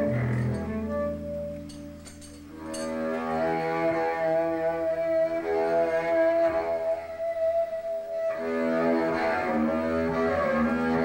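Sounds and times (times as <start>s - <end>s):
bowed double bass: 0.0s - 11.0s.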